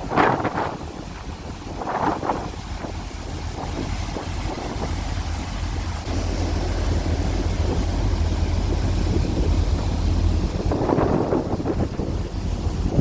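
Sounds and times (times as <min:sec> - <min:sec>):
low rumble of ship: 0:00.0 - 0:13.0
wind buffeting microphone: 0:00.0 - 0:13.0.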